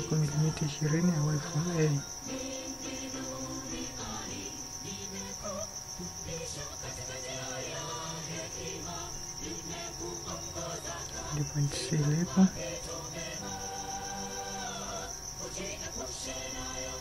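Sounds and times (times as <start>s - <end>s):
crickets trilling: 0.0s - 17.0s
faint background music: 0.0s - 17.0s.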